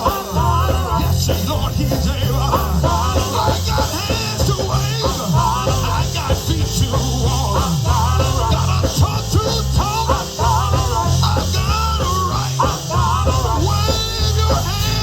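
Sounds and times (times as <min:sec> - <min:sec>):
bass line: 0:00.0 - 0:15.0
driving drum beat: 0:00.0 - 0:15.0
organ playing fast runs: 0:00.0 - 0:15.0.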